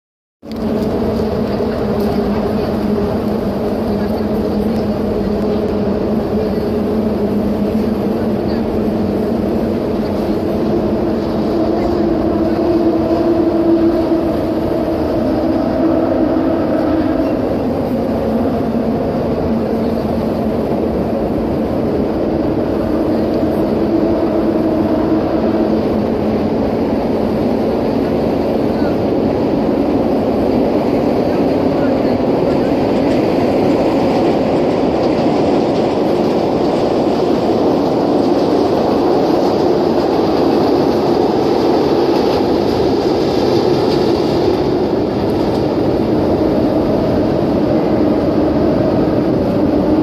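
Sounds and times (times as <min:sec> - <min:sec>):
low rumble: 0:00.4 - 0:50.0
tyres humming on bridge decking: 0:00.4 - 0:50.0.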